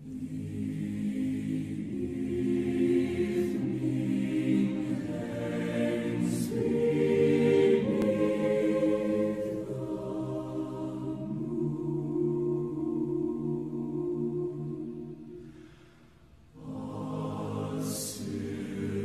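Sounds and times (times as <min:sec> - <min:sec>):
choir-like voices holding chords: 0:00.0 - 0:19.0.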